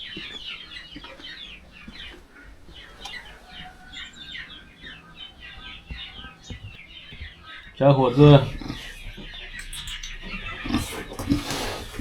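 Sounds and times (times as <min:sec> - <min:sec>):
birds chirping and clucking: 0:00.0 - 0:12.0.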